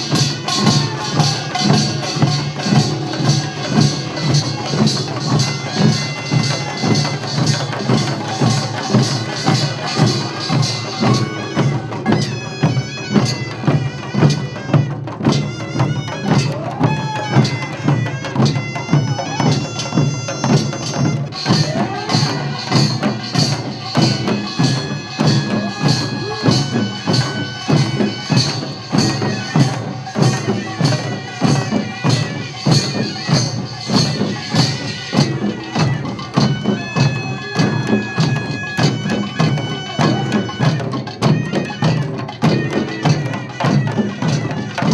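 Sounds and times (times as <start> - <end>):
drums and gongs beating: 0.0 - 44.9
shrill reed shawm melody: 0.0 - 44.9.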